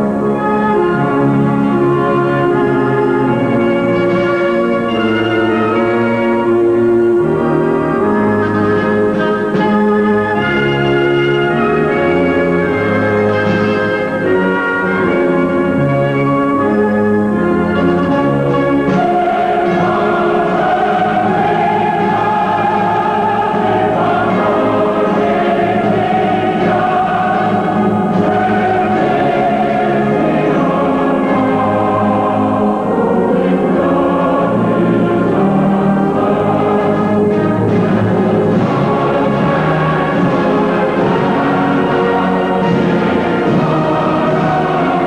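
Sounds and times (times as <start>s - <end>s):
choir singing held chords: 0.0s - 45.0s
orchestral music: 0.0s - 45.0s.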